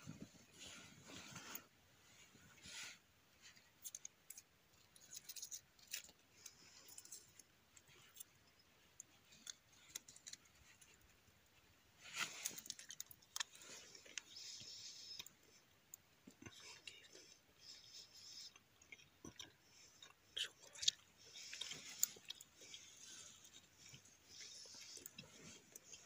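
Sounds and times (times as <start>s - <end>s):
rustling: 0.0s - 15.6s, 20.6s - 26.0s.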